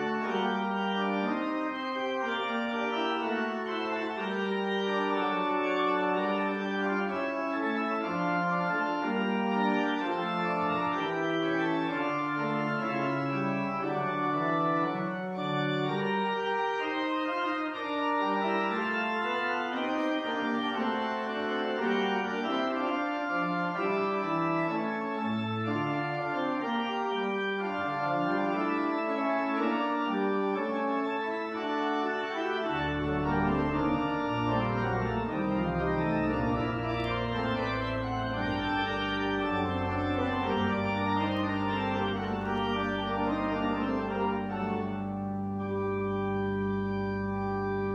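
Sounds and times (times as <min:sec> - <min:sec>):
organ chords: 0:00.0 - 0:47.9.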